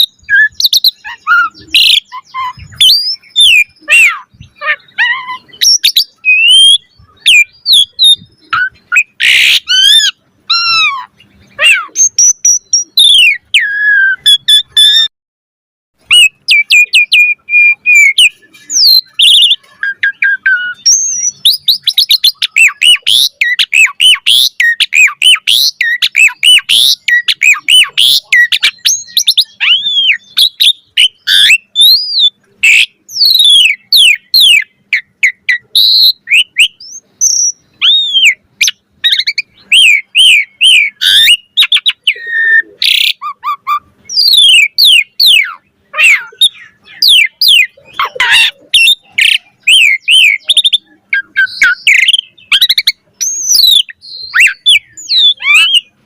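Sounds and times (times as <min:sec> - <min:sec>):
starling singing: 0:00.0 - 0:15.1, 0:16.0 - 0:56.0.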